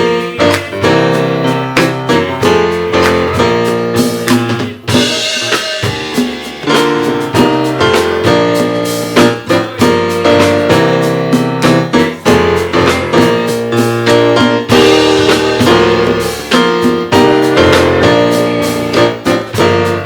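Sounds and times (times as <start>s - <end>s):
bass line: 0.0s - 20.0s
keyboard playing chords: 0.0s - 20.0s.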